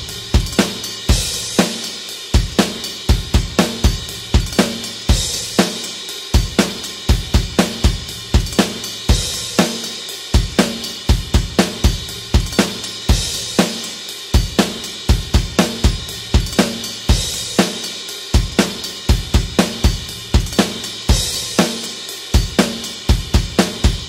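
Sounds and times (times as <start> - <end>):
rock drum kit beat: 0.0 - 24.0.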